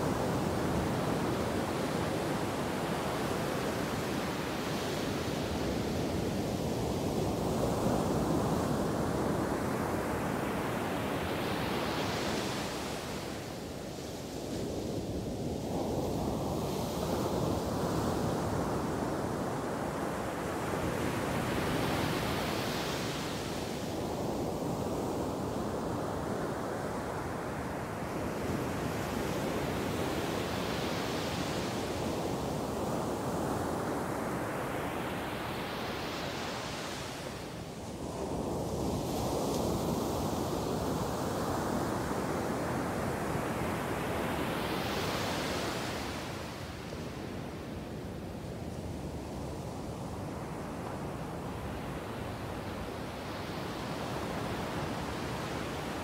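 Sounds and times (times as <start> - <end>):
waves breaking on a beach: 0.0 - 56.0.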